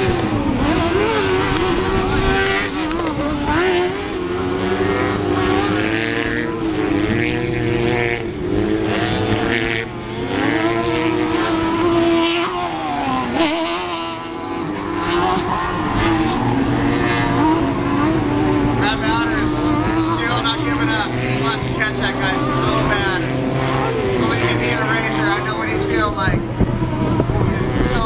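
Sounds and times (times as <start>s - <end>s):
racing buggy engines revving: 0.0s - 28.0s.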